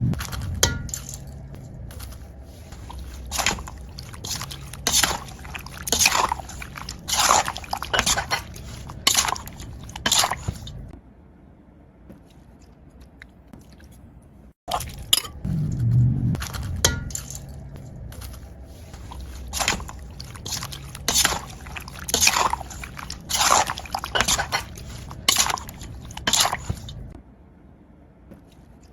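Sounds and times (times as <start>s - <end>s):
wet crunching and squishing of salad: 0.0s - 10.9s, 12.3s - 27.2s.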